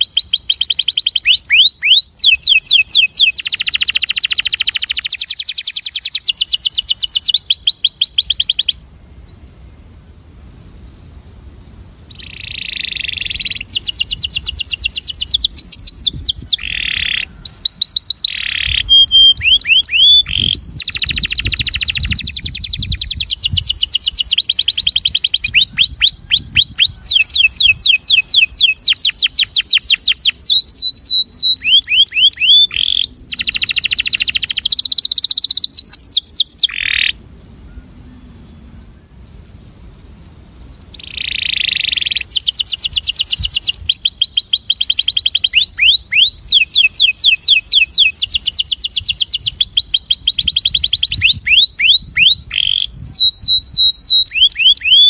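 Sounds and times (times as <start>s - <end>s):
canary singing rapid trills: 0.0s - 8.8s, 12.0s - 37.2s, 40.0s - 55.0s.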